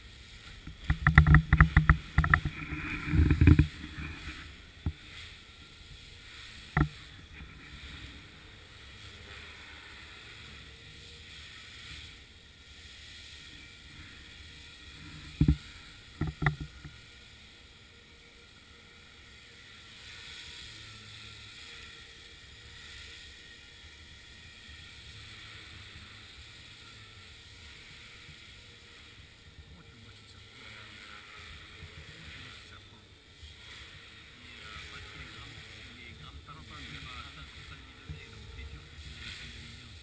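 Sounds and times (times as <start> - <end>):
model helicopter whirring: 0.0 - 40.0.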